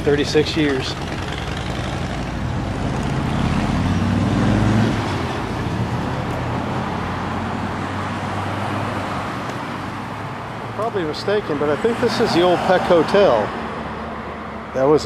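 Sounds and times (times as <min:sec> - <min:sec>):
vehicle engine accelerating: 0:00.0 - 0:13.9
road traffic rumble: 0:00.0 - 0:15.0.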